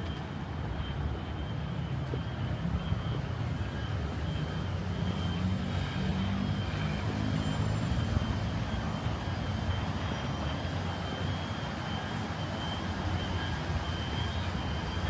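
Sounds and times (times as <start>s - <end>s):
road noise: 0.0s - 15.0s
vehicle engines rumbling: 0.0s - 15.0s.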